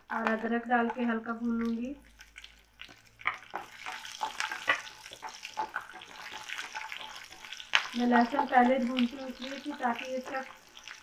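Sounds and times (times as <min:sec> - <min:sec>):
garlic and ginger sizzling in oil: 0:00.0 - 0:11.0.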